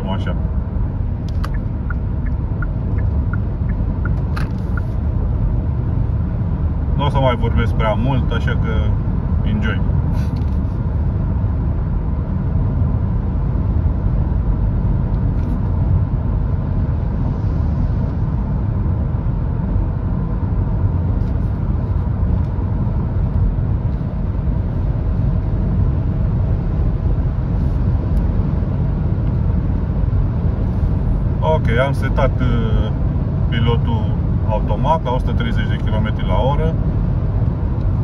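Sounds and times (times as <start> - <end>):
faint engine hum: 0.0 - 38.0
road and wind noise in car cabin: 0.0 - 38.0.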